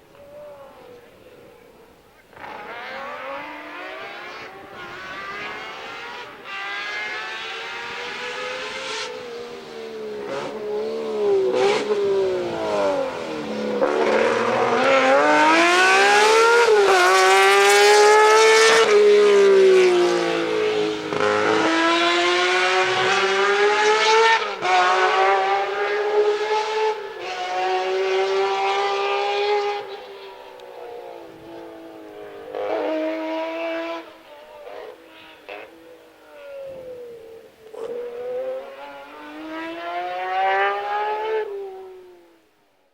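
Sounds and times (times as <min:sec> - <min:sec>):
rally car engine revving through gears: 0:02.3 - 0:42.2.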